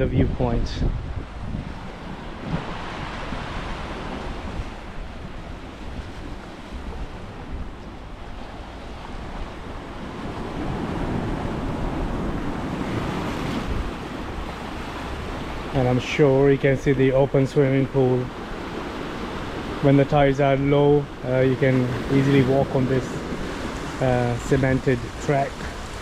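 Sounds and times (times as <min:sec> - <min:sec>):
wind buffeting microphone: 0:00.0 - 0:15.8, 0:20.9 - 0:26.0
sea waves breaking on rocks: 0:01.3 - 0:26.0.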